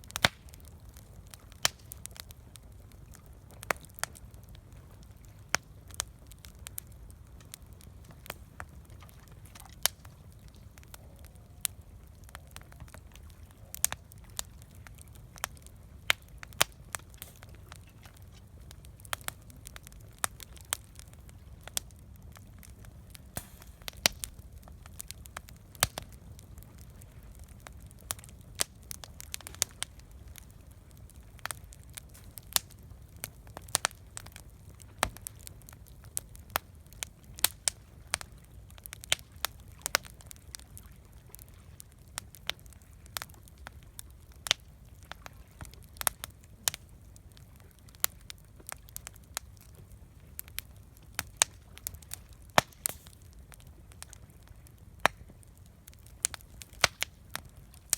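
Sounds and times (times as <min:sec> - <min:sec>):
campfire crackling and popping: 0:00.0 - 0:57.9
low fire rumble: 0:00.0 - 0:57.9.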